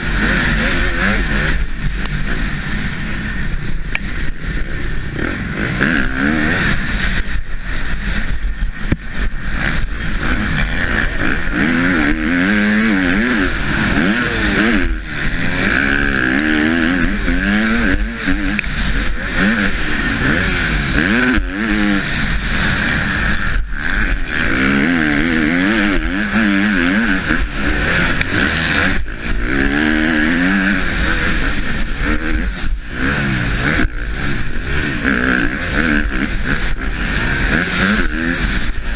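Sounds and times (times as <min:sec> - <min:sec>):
motocross bike engine revving: 0:00.0 - 0:38.9
wind and track noise hiss: 0:00.0 - 0:38.9.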